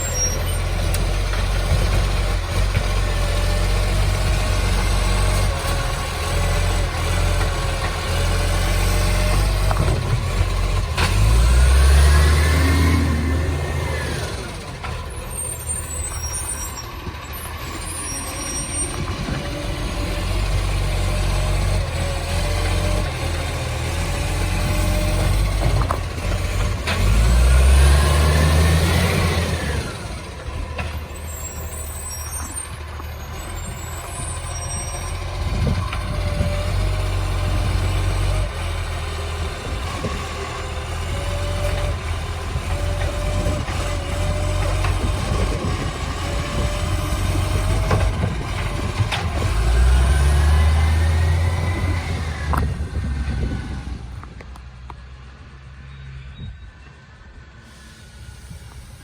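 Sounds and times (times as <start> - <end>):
garbage truck diesel engine revving: 0.0 - 54.3.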